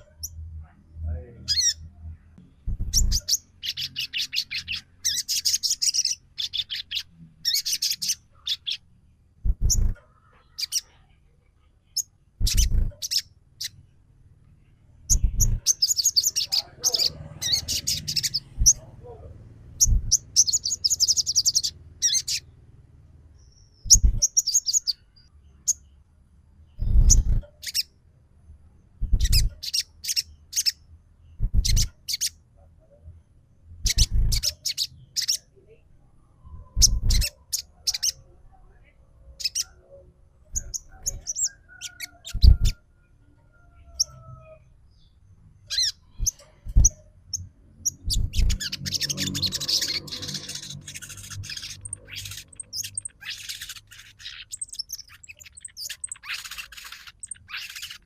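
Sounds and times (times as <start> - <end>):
songbird chirping trills: 0.0 - 58.0.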